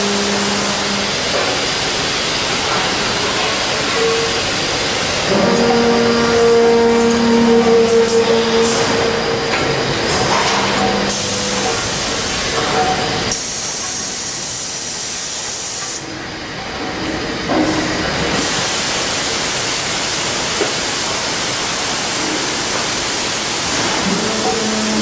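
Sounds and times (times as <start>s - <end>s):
factory machinery hiss: 0.0s - 25.0s.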